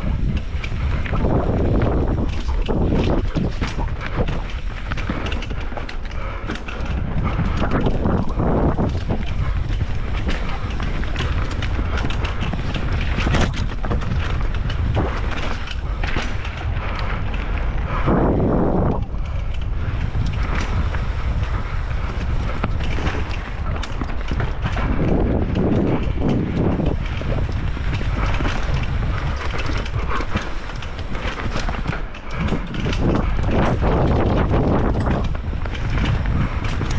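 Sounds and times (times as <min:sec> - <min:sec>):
tyre rumble: 0:00.0 - 0:36.9
wind buffeting microphone: 0:00.0 - 0:36.9.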